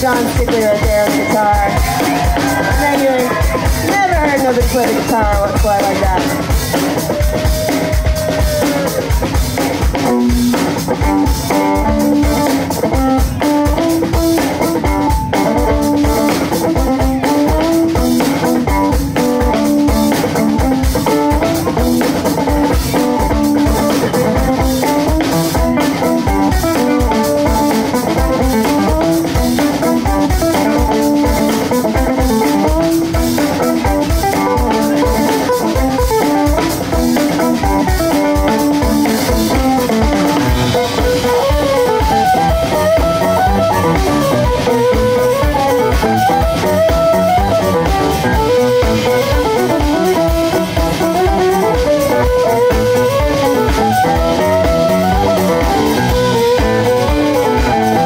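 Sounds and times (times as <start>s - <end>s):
drum kit beat: 0.0s - 58.0s.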